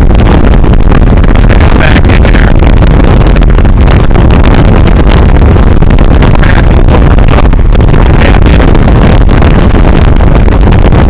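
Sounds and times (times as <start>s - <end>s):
boat engine and hull noise: 0.0s - 11.0s
wind buffeting microphone: 0.0s - 11.0s.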